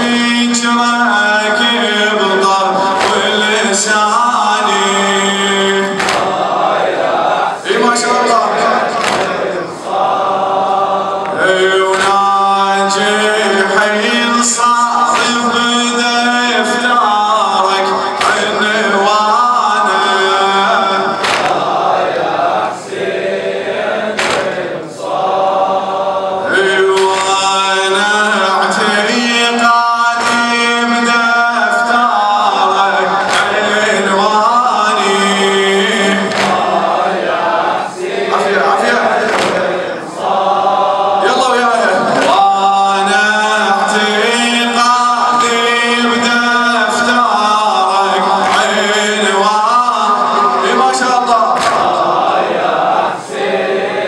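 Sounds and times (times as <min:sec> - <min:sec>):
man chanting a lament: 0:00.0 - 0:54.0.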